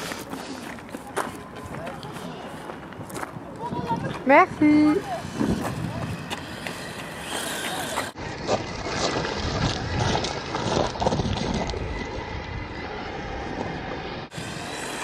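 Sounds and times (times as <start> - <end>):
wind rumble on microphone: 1.4 - 7.5, 8.2 - 15.0.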